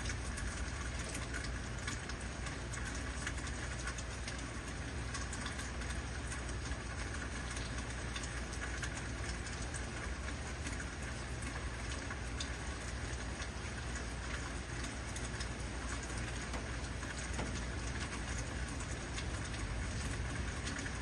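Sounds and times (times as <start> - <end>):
heavy rain: 0.0 - 21.0
raindrops ticking: 0.0 - 21.0.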